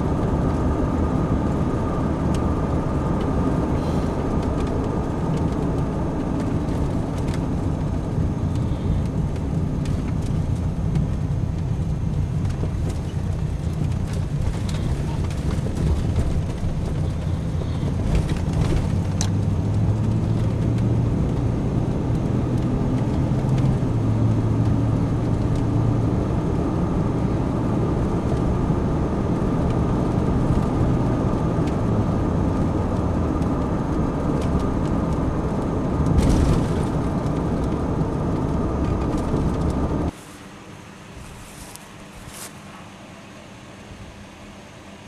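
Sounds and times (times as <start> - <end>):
low rumble: 0.0 - 40.1
car engine hum: 0.0 - 45.0
tyre and road noise: 0.0 - 45.0.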